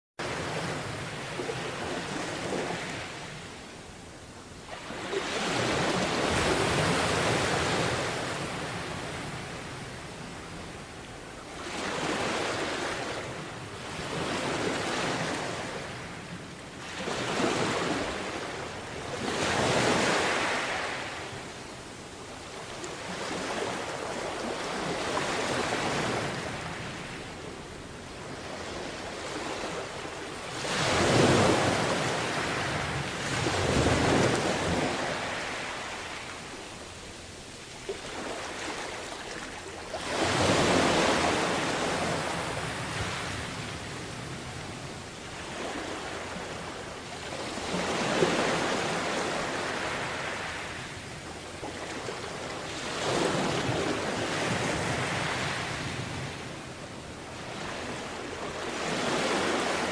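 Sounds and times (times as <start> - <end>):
sea waves washing ashore: 0.2 - 59.9.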